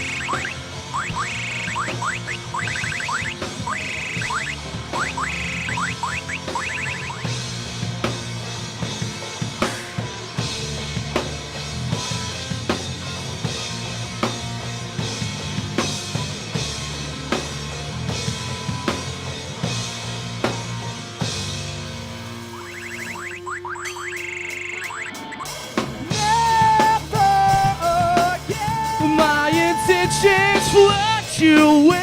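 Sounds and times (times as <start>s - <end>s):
rock band instrumental: 0.0s - 32.0s.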